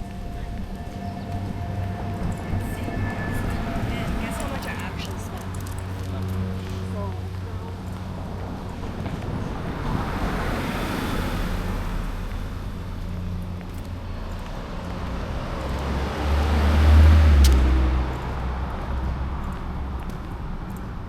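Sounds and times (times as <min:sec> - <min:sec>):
cars passing on street: 0:00.0 - 0:21.0
deep rumble of passing vehicle: 0:00.0 - 0:21.0.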